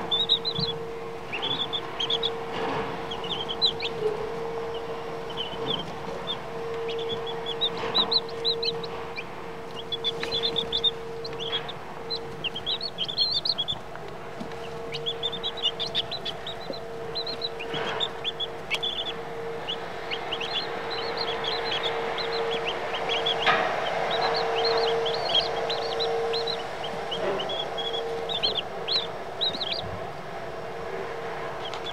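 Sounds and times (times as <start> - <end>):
baby chicks peeping: 0.0 - 31.9
steady low hum: 0.0 - 31.9.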